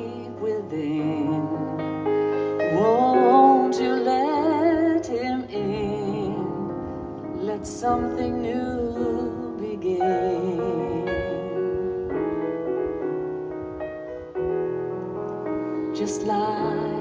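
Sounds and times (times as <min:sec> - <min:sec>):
slow gentle music: 0:00.0 - 0:17.0.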